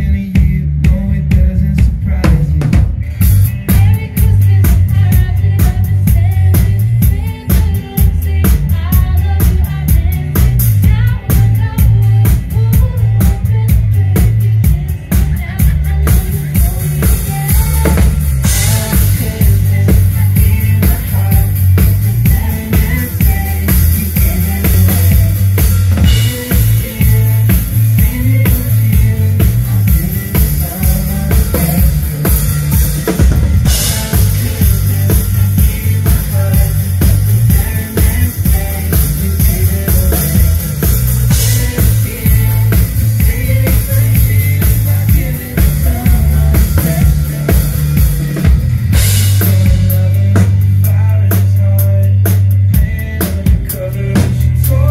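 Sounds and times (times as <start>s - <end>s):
drum kit beat: 0.0s - 54.9s
heavy bass: 0.0s - 54.9s
live band music: 0.0s - 54.9s.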